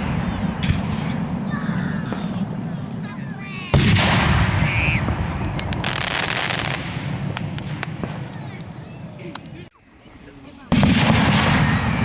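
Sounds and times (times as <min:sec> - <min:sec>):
fireworks boom: 0:00.0 - 0:09.5, 0:10.7 - 0:12.0
fireworks crackling: 0:00.0 - 0:12.0.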